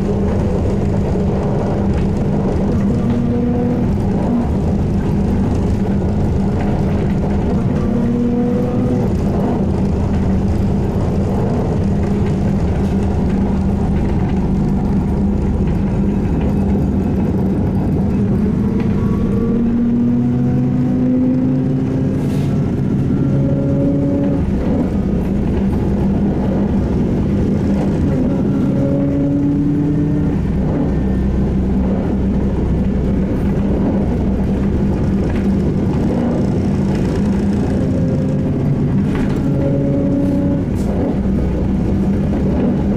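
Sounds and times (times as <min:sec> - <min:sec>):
trolleybus rumble and hum: 0:00.0 - 0:42.9.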